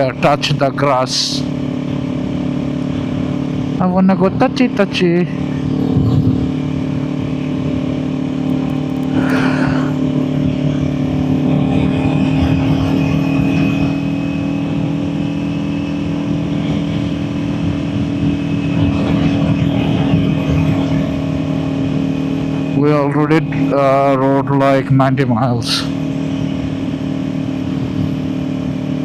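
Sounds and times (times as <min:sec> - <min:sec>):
motorcycle engine cruising: 0:00.0 - 0:29.0
wind and road noise: 0:00.0 - 0:29.0.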